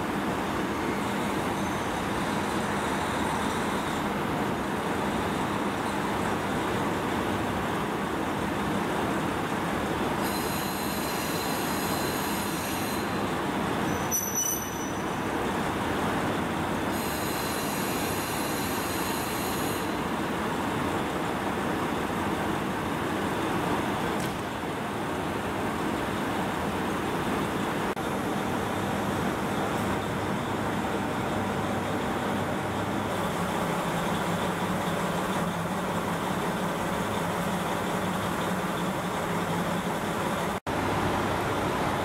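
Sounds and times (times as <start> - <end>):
diesel railcar engine idling: 0.0 - 42.0.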